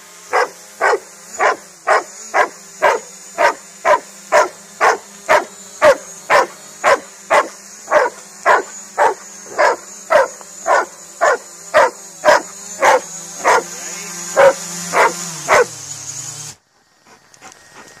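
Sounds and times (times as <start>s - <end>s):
drone propellers humming: 0.0s - 18.0s
dog barking: 0.3s - 13.8s, 14.4s - 15.7s.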